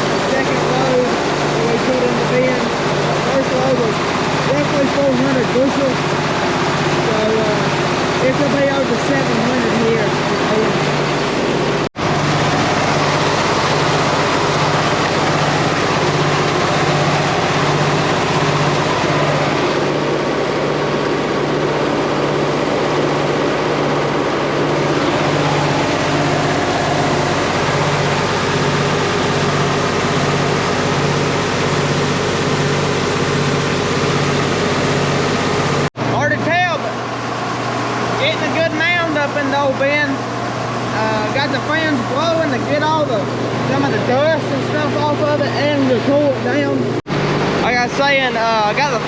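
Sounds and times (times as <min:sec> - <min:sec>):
farm machinery pulsing hum: 0:00.0 - 0:49.0.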